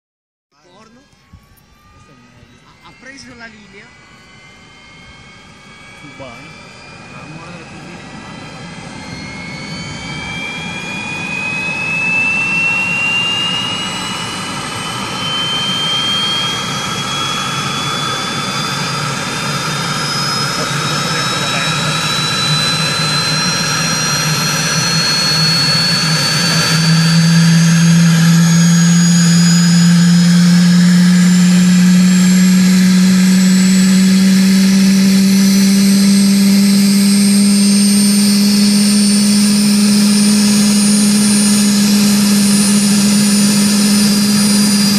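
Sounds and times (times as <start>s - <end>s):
rotor low hum: 0.6s - 44.9s
turbine engine whine rising: 0.6s - 44.9s.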